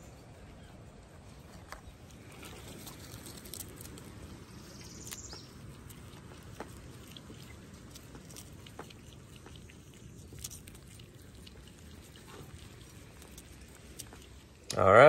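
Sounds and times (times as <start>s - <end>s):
prairie dogs chewing lettuce: 0.0s - 15.0s.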